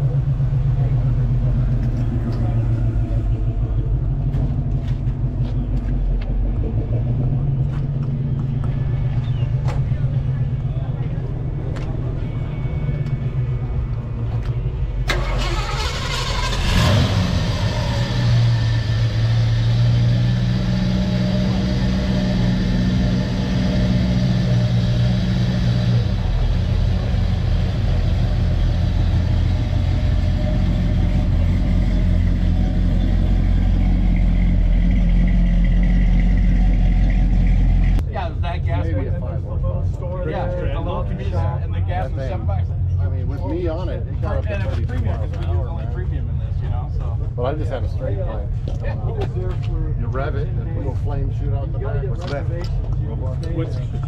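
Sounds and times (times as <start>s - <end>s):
car engine starting and running: 0.0s - 54.0s.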